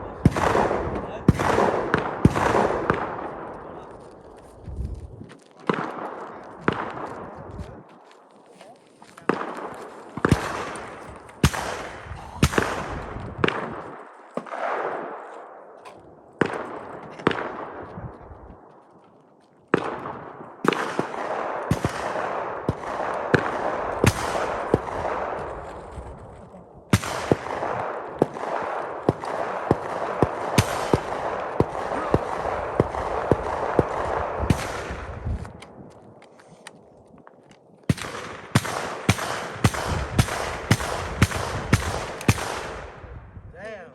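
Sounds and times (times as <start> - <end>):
gunshots with ringing echo: 0.0 - 4.3, 5.6 - 7.5, 9.2 - 18.7, 19.7 - 26.0, 26.7 - 35.8, 37.9 - 43.4.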